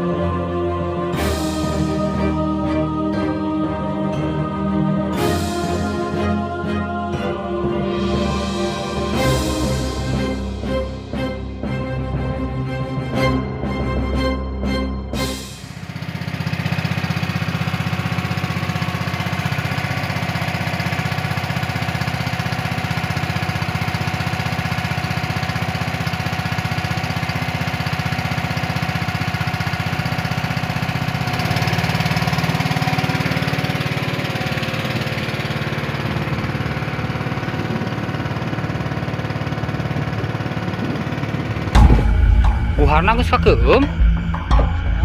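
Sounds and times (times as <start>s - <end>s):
small boat engine running: 0.0s - 45.0s.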